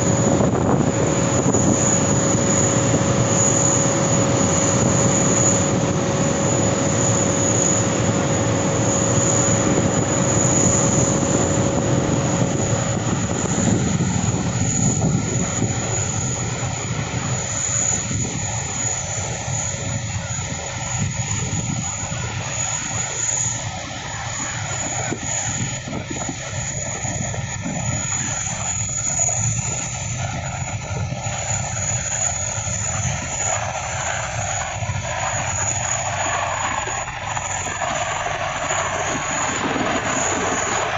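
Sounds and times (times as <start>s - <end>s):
helicopters flying past: 0.0s - 40.9s.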